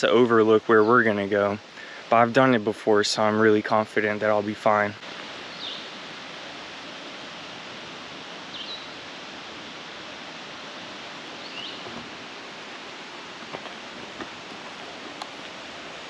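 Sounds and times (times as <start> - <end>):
waterfall rushing: 0.1 - 16.0.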